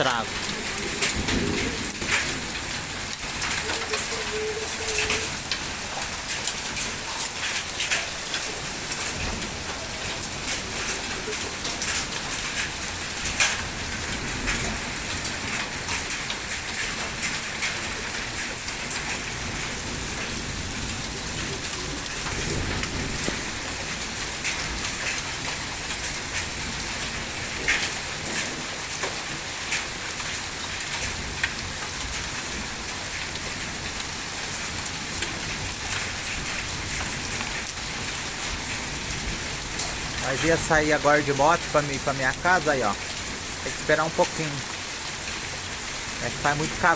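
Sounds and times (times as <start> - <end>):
hailstones clicking: 0.0 - 46.9
heavy rain hiss: 0.0 - 46.9.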